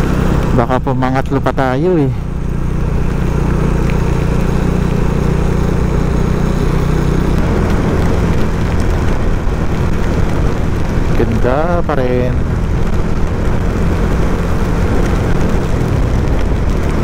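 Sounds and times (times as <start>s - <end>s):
motorcycle engine running: 0.0s - 17.0s
rain noise: 0.0s - 17.0s
wind rushing: 2.2s - 17.0s.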